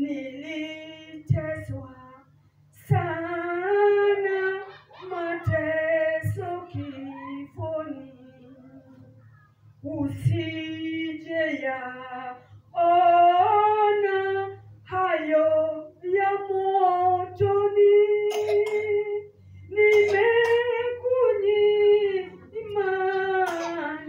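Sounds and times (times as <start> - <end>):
woman singing unaccompanied: 0.0 - 8.9, 9.8 - 24.0.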